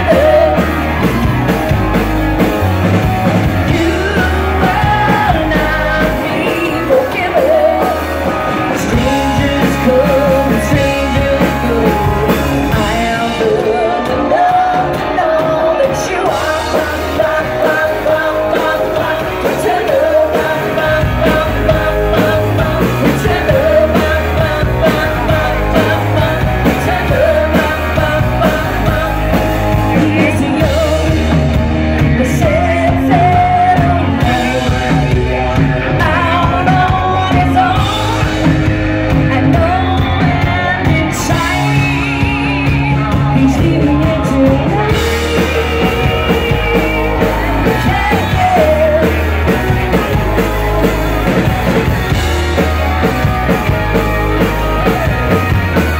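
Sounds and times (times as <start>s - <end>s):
woman singing: 0.0s - 1.0s, 3.4s - 50.6s
bass guitar: 0.0s - 55.9s
drums: 0.0s - 55.9s
electric guitar: 0.0s - 55.9s.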